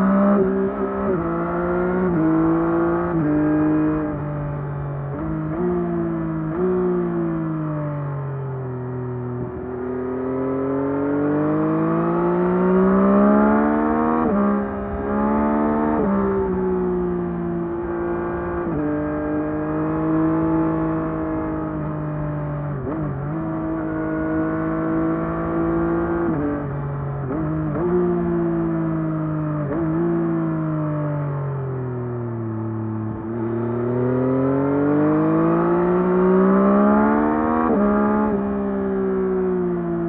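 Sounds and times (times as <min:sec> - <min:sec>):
motorcycle engine revving and shifting: 0:00.0 - 0:40.0.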